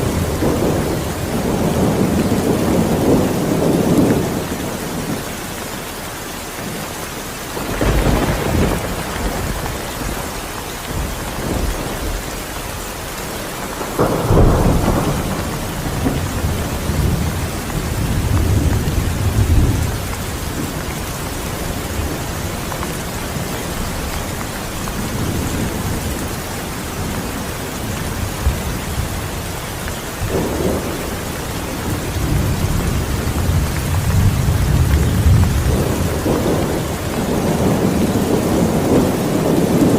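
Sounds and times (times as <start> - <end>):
rolling thunder: 0.0 - 5.2, 7.5 - 39.9
steady rain: 0.0 - 39.9.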